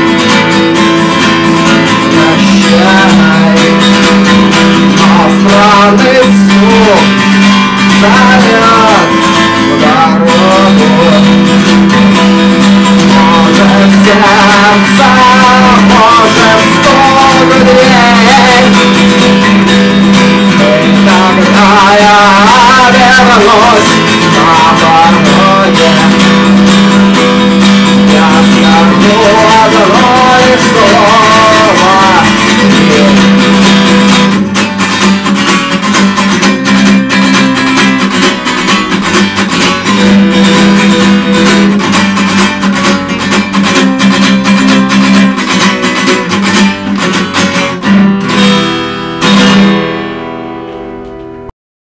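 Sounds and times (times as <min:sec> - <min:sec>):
instrumental rock band music: 0:00.0 - 0:51.5.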